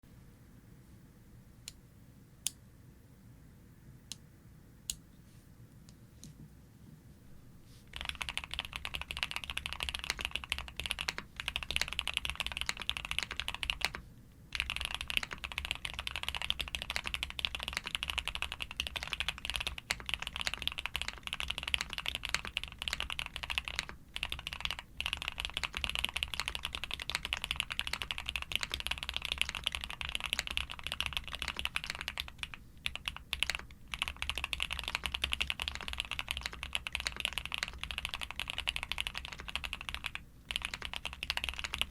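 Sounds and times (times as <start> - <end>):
steady low hum: 0.0 - 41.9
fast mechanical keyboard typing: 7.9 - 41.9.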